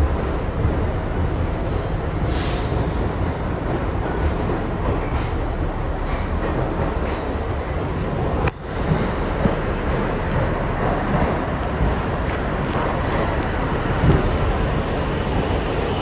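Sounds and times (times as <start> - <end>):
subway train rumbling on track: 0.0 - 16.0.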